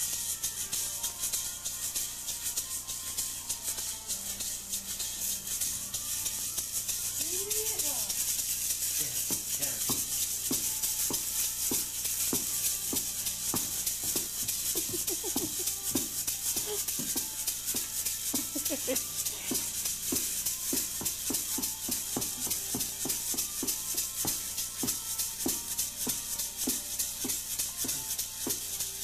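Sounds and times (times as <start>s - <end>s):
toy maraca rattling: 0.0s - 29.0s.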